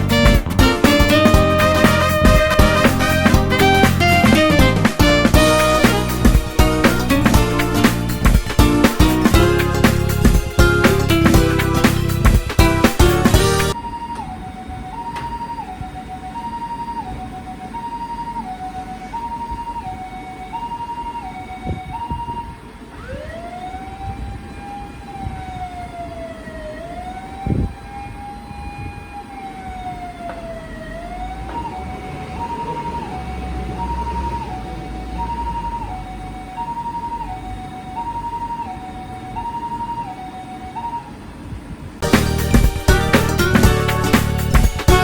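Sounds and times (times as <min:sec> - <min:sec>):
two-tone ambulance siren: 0:00.0 - 0:45.0
wailing siren: 0:00.0 - 0:45.0.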